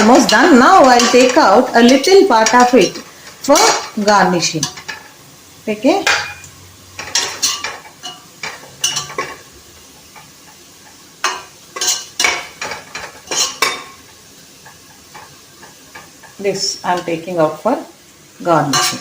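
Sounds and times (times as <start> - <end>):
metal spoon scraping frying pan: 0.0 - 5.2, 6.0 - 9.5, 10.1 - 17.2, 18.7 - 19.0
oil sizzling: 0.0 - 19.0.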